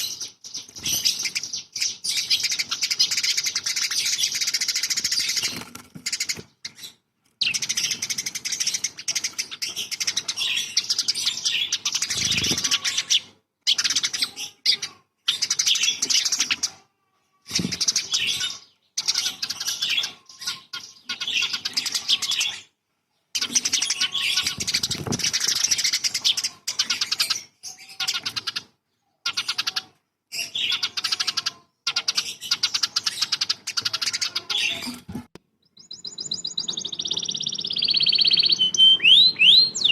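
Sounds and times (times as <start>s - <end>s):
songbird chattering and trilling: 0.0s - 16.8s, 17.5s - 35.0s, 35.6s - 39.9s.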